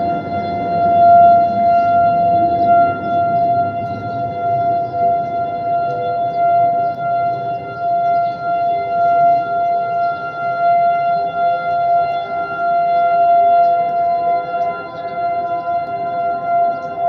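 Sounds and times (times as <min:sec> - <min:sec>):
lower siren tone: 0:00.0 - 0:17.0
warning siren steady tone: 0:00.0 - 0:17.0.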